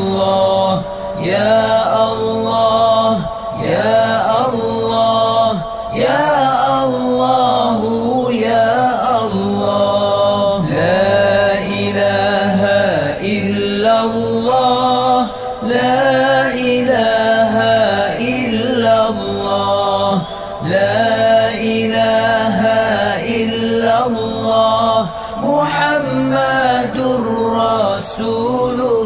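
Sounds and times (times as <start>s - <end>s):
person chanting melodically: 0.0s - 29.0s.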